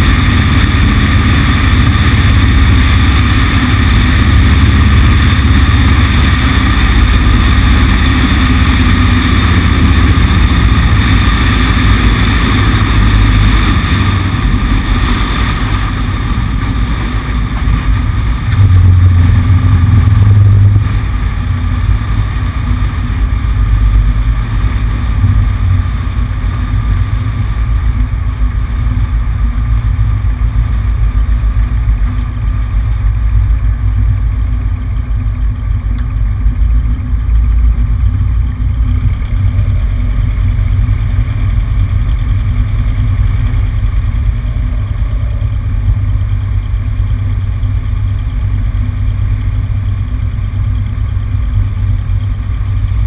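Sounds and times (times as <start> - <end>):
light aircraft engine and propeller: 0.0 - 53.0.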